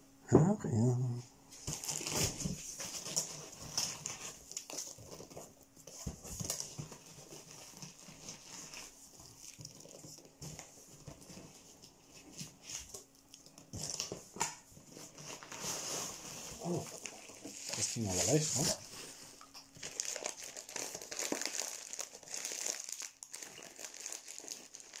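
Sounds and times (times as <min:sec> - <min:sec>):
cardboard and packing rustling: 0:01.5 - 0:25.0.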